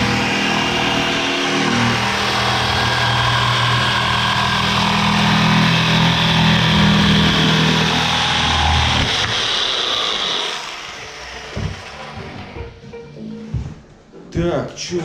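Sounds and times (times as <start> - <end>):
power tool motor humming: 0.0 - 12.6.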